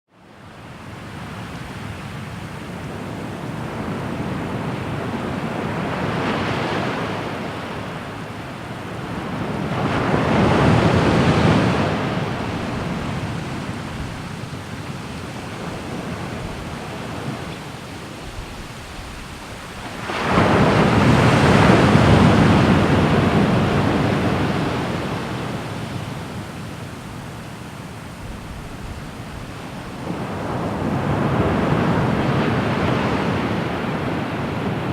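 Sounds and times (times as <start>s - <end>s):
ocean waves breaking on shore: 0.2s - 34.9s.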